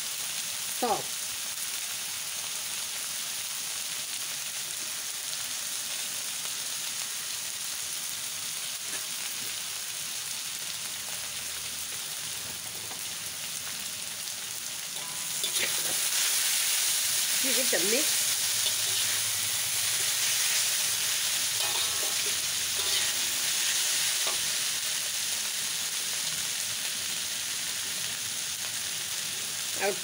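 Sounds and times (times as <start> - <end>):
noodles sizzling in a wok: 0.0 - 30.0.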